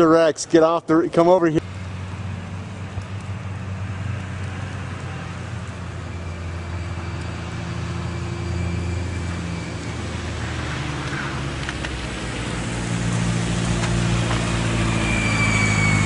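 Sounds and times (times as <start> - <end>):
car engines in slow traffic: 0.0 - 16.0.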